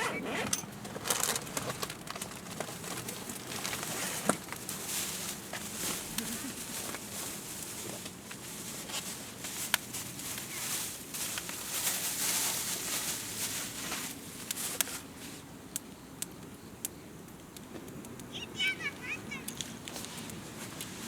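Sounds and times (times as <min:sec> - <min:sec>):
campfire crackling and hissing: 0:01.2 - 0:21.0.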